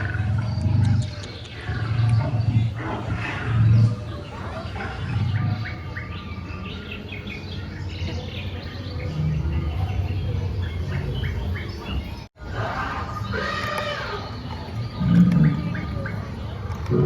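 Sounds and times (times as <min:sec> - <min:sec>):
bird chirps and calls: 0:00.0 - 0:17.0.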